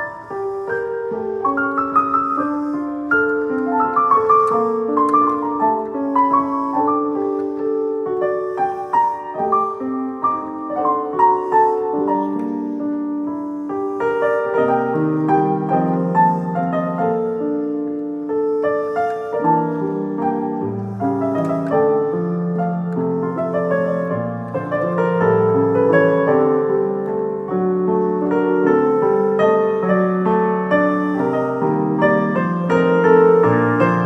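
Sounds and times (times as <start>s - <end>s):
solo piano waltz: 0.0s - 34.0s.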